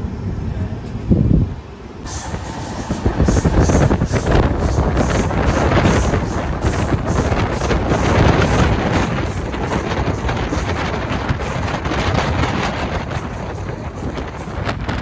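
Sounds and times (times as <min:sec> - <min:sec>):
train rumbling on track: 0:00.0 - 0:15.0
wind buffeting microphone: 0:00.2 - 0:15.0.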